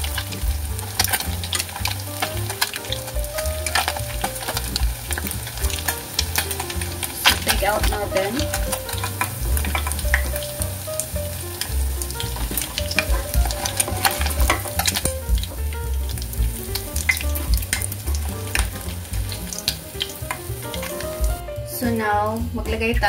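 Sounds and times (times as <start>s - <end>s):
fish sizzling in hot oil: 0.0s - 21.4s.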